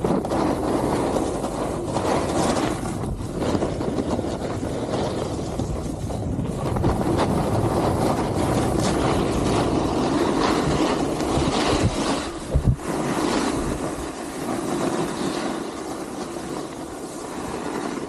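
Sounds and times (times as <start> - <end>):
snowboard scraping on snow: 0.0 - 18.0.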